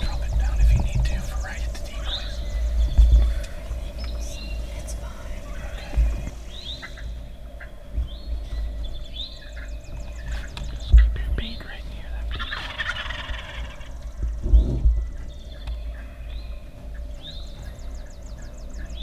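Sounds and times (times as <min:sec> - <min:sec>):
low thumps: 0:00.0 - 0:12.6, 0:13.9 - 0:19.0
turkeys gobbling: 0:00.0 - 0:19.0.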